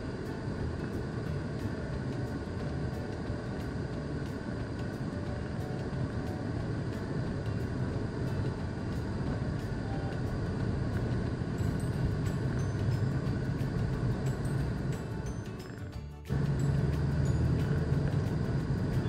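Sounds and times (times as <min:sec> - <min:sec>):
slow city traffic: 0:00.0 - 0:19.0.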